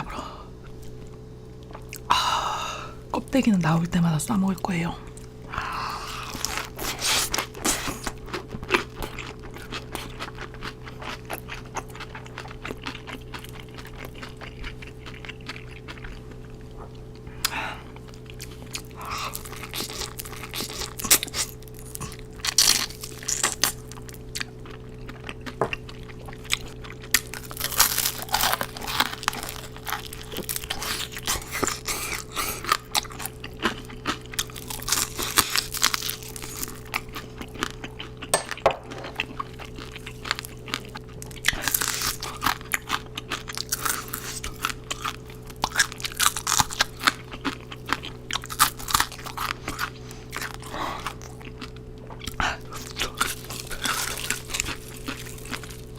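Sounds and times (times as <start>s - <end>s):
faint low hum: 0.0s - 55.9s
crunching fried chicken skin: 6.1s - 55.9s.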